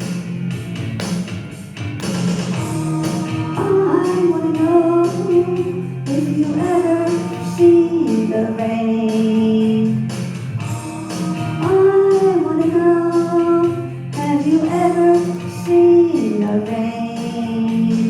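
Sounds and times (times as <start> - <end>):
karaoke backing track: 0.0 - 18.0
person singing: 2.6 - 18.0.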